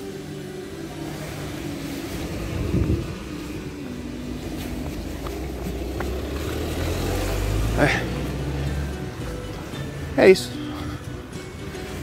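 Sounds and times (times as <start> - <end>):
distant engine humming: 0.0 - 12.0
street noise: 0.0 - 12.0.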